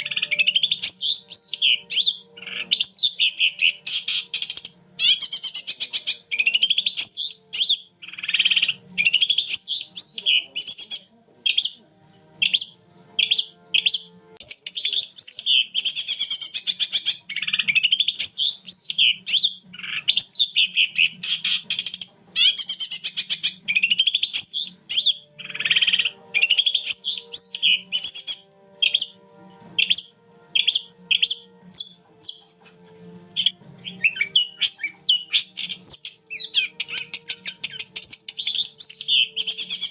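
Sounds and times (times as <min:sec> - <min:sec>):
shrike singing chirps and trills: 0:00.0 - 0:11.8, 0:12.4 - 0:29.2, 0:29.8 - 0:32.6, 0:33.4 - 0:39.9.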